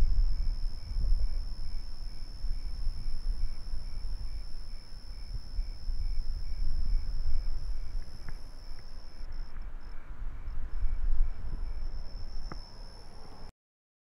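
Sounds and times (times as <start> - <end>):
crickets chirping: 0.0 - 13.5
insect trill: 0.0 - 13.5.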